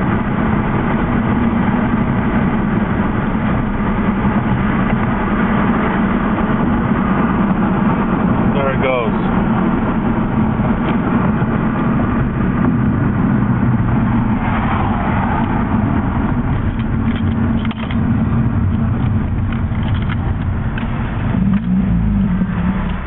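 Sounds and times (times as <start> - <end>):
car engine running at low revs: 0.0 - 23.0
road noise: 0.0 - 23.0.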